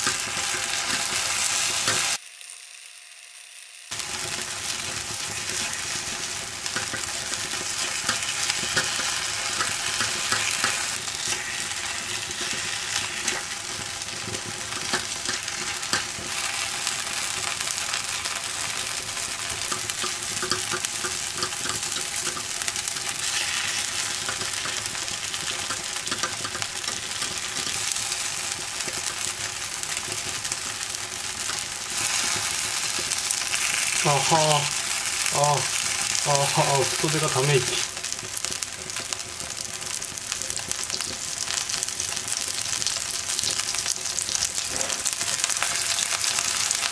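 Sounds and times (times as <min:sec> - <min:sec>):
batter sizzling and crackling: 0:00.0 - 0:46.9.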